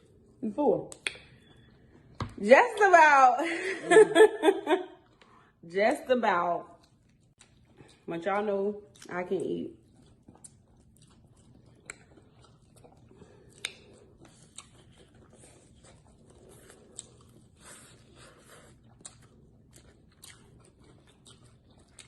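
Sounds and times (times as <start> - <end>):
faint chewing with crisp crunches: 0.0 - 2.2, 5.0 - 5.6, 6.6 - 22.0.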